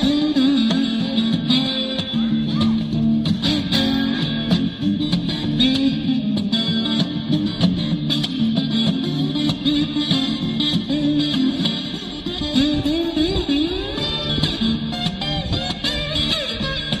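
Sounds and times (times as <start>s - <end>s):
electric guitar strummed chords: 0.0s - 17.0s.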